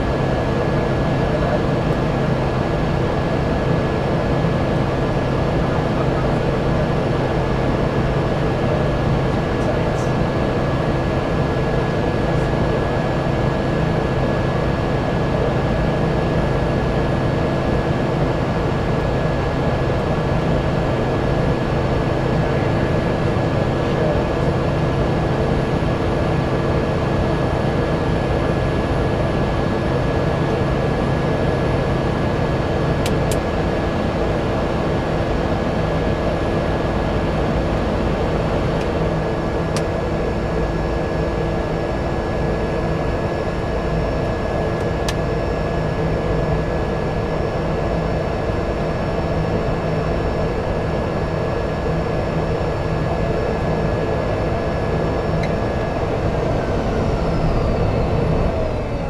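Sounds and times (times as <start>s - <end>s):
turboprop engine drone: 0.0s - 59.0s.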